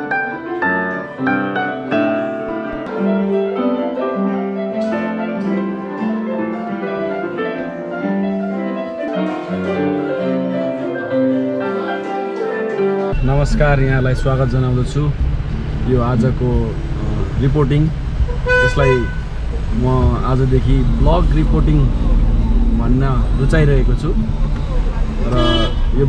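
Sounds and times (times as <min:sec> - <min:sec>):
electronic keyboard piano melody: 0:00.0 - 0:26.0.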